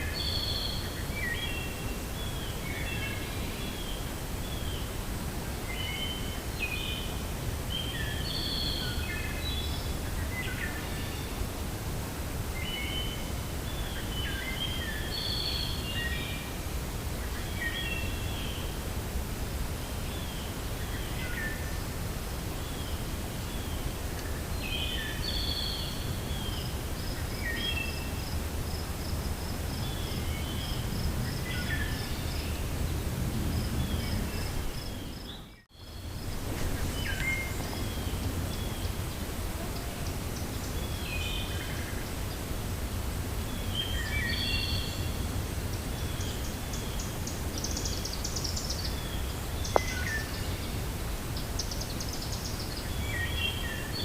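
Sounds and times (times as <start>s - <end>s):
songbirds chirping: 0.0s - 54.0s
wind through forest: 0.0s - 54.0s.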